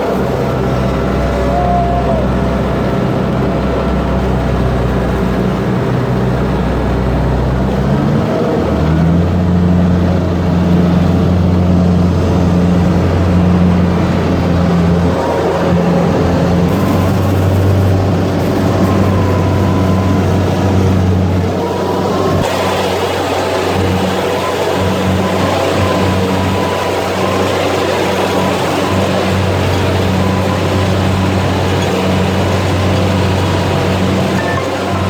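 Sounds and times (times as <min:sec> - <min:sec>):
combine harvester engine and threshing: 0:00.0 - 0:35.0.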